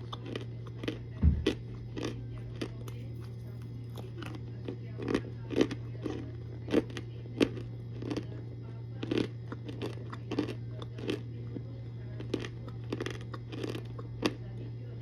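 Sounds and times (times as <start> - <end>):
crunchy food being chewed: 0.0 - 15.0.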